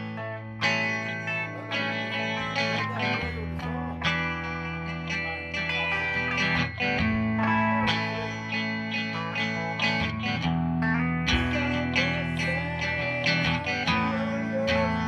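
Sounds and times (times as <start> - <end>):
guitar chords: 0.0 - 15.0.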